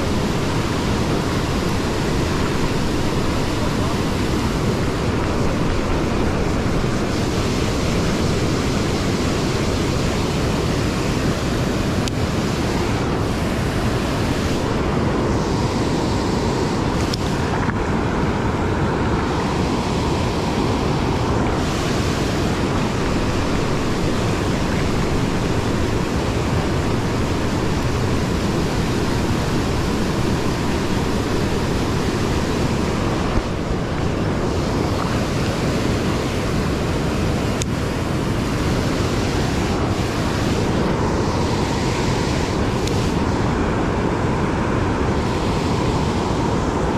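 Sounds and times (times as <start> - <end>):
river whitewater roaring over weir: 0.0 - 46.9.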